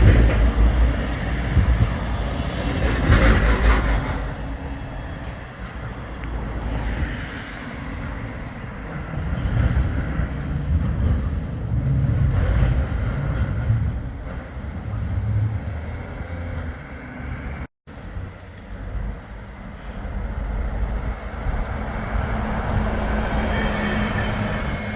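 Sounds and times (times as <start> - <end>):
road traffic rumbling: 0.0 - 24.9
tram rumbling past: 0.0 - 24.9.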